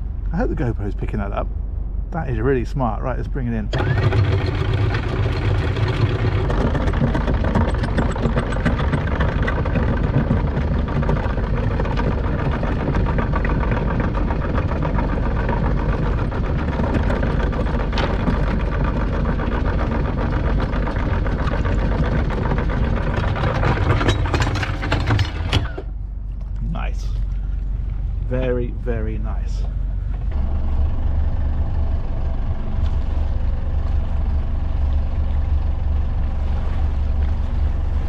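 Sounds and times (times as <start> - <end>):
electric anchor windlass running: 0.0 - 38.0.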